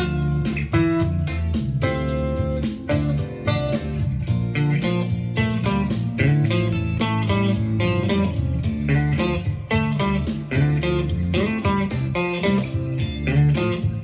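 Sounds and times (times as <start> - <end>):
backing track: 0.0 - 14.0
electric guitar lead: 0.0 - 14.0.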